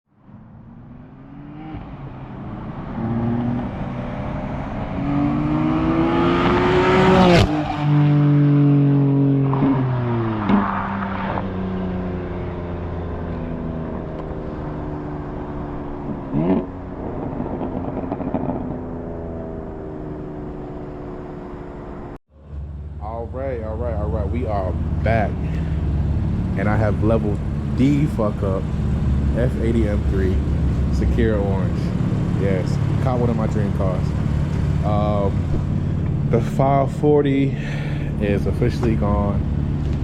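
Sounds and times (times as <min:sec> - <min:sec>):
car engine accelerating: 0:00.3 - 0:40.0.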